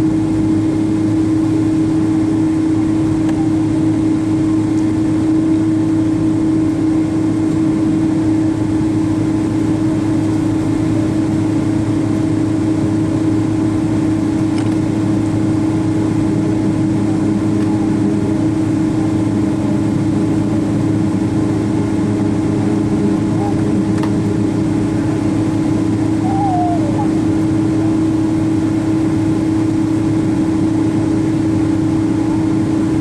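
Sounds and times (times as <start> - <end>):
aircraft cabin drone: 0.0 - 33.0
low steady rumble: 0.0 - 33.0.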